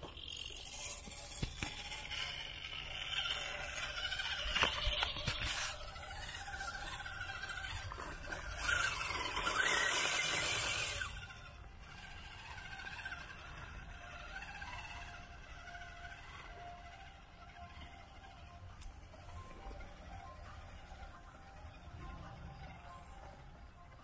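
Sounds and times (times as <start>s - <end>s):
toy car electric motor whining: 0.0s - 24.0s.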